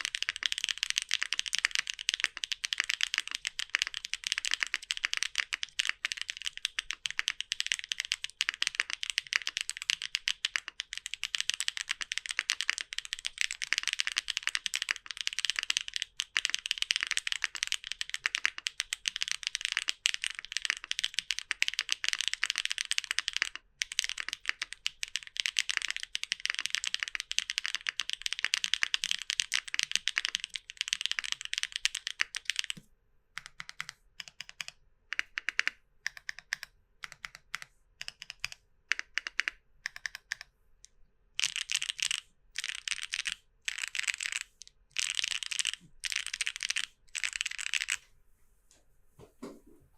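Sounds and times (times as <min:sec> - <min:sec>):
typing on mechanical keyboard: 0:00.0 - 0:32.8, 0:33.4 - 0:40.5, 0:41.4 - 0:48.0.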